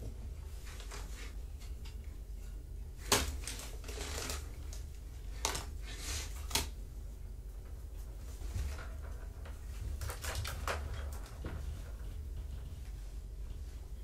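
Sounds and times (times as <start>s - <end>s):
kittens scrabbling and rustling: 0.0s - 14.0s.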